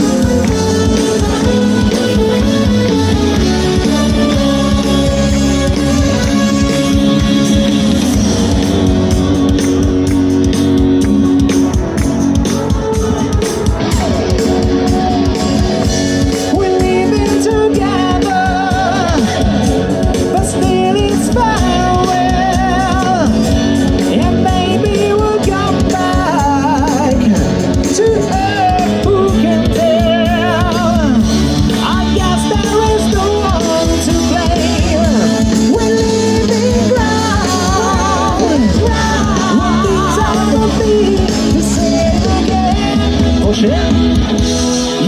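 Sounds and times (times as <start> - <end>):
pop song with singer: 0.0 - 45.0.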